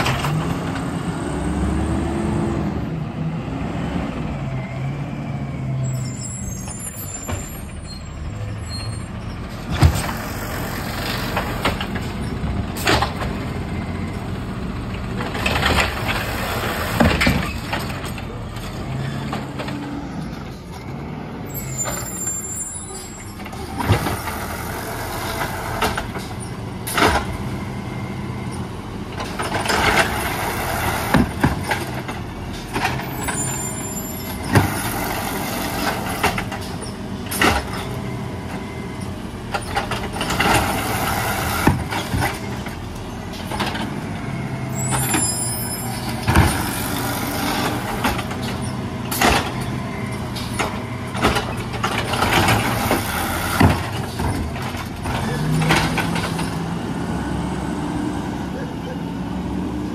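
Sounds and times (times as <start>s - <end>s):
garbage truck engine running: 5.6s - 59.9s
trash carts banging on hopper: 9.2s - 21.0s, 23.3s - 59.9s.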